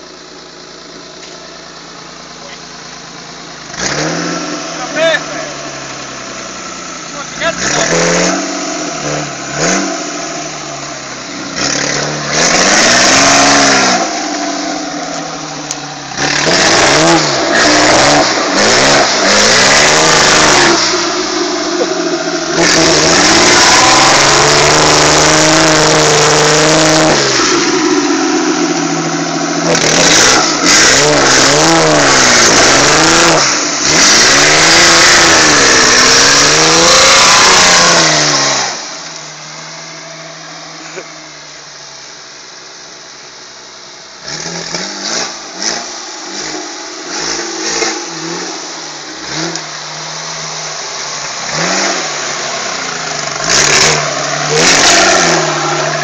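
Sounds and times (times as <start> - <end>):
off-road vehicle engine revving: 0.0 - 42.6, 43.2 - 56.0
vehicle churning through mud and water: 0.0 - 56.0.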